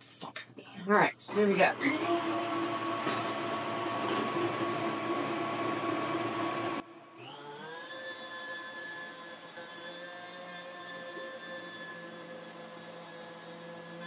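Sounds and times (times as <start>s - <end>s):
mixer motor whine: 1.3s - 14.0s.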